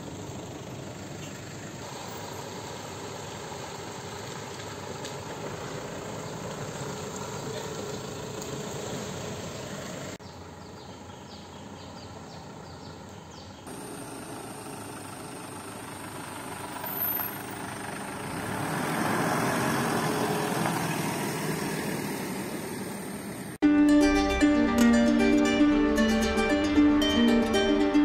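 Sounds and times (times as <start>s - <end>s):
suv engine driving on gravel: 0.0s - 23.6s.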